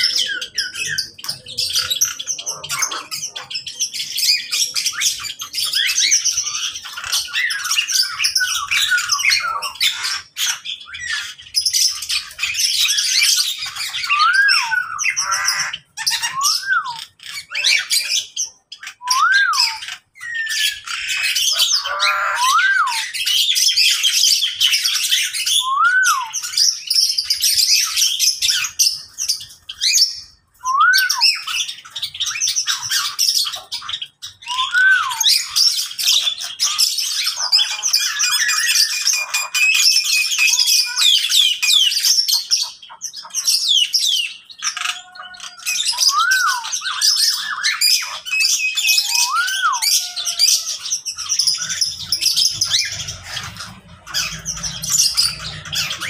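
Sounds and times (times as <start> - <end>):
birds chirping and squawking: 0.0 - 56.0.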